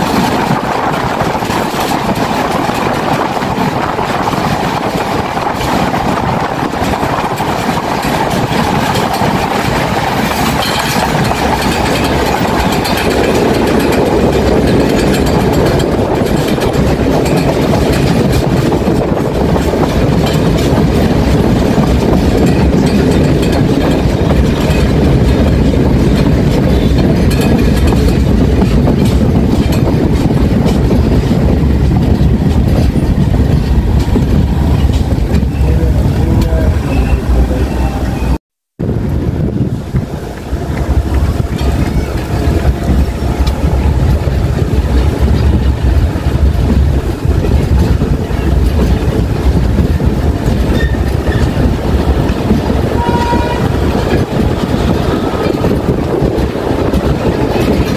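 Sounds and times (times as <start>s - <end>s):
train coaches rumbling and rattling: 0.0s - 57.9s
wheels clattering on rails: 0.0s - 57.9s.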